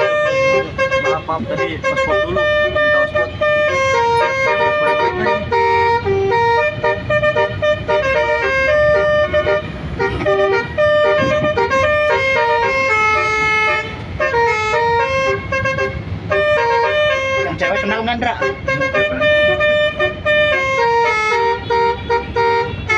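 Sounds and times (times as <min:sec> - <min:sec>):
bus horn playing melody: 0:00.0 - 0:22.9.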